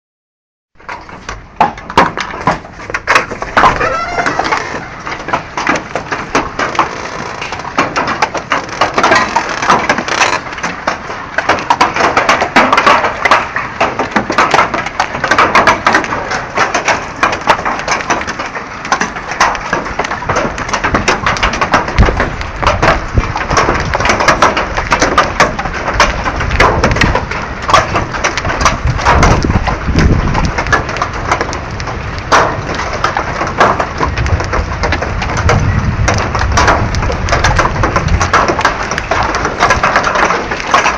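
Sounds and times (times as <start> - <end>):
hailstones clattering: 0.8 - 40.9.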